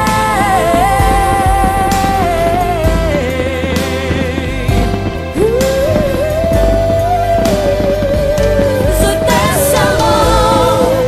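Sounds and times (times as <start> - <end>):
song with held melody note: 0.0 - 11.0.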